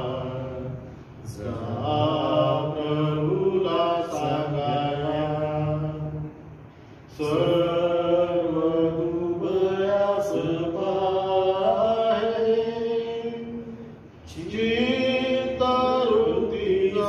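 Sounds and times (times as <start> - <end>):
man singing a hymn slowly: 0.0 - 6.4, 7.1 - 17.0.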